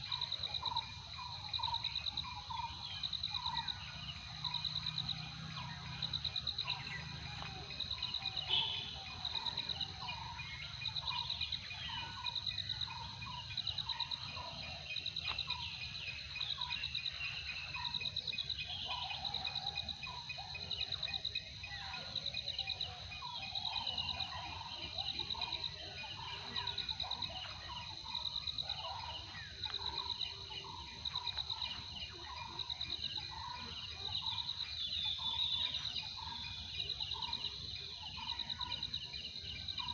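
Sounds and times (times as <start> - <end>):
birds calling and chirping: 0.0 - 39.9
insects trilling in pulsed bursts: 0.0 - 39.9.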